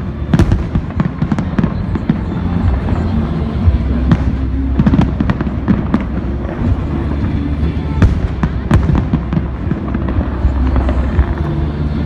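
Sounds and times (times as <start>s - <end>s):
continuous low rumble: 0.0s - 12.0s
fireworks bangs and crackles: 0.0s - 12.0s.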